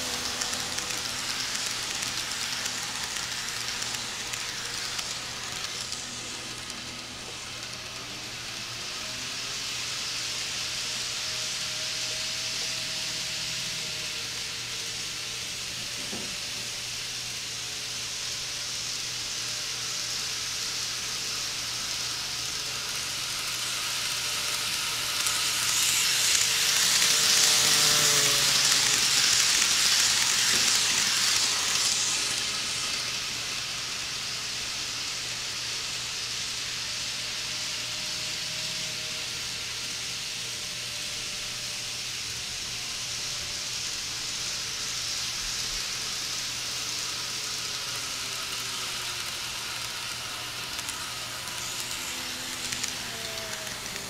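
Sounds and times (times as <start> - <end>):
model train motor whine: 0.0 - 54.0
model train rolling on track: 0.0 - 54.0.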